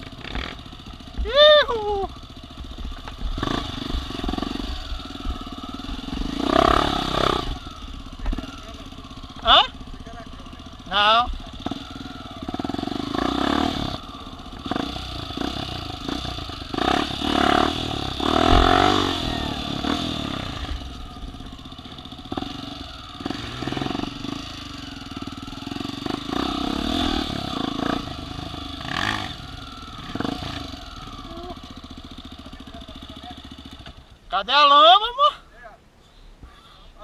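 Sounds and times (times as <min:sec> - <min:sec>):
off-road vehicle engine revving: 0:00.0 - 0:35.2.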